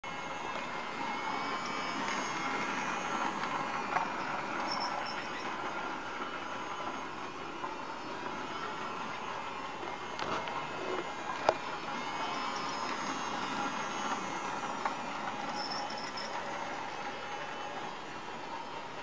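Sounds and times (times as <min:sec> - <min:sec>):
toy train motor whirring: 0:00.1 - 0:19.0
wheels rattling on rails: 0:00.1 - 0:19.0.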